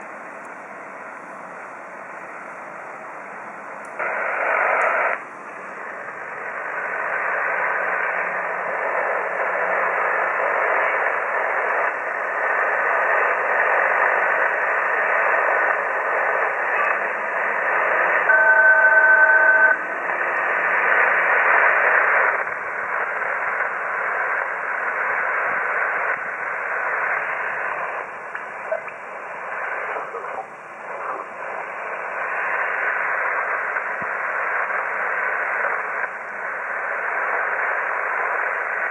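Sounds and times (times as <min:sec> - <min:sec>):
radio white noise hiss: 0:00.0 - 0:38.9
steady radio tones: 0:00.0 - 0:38.9.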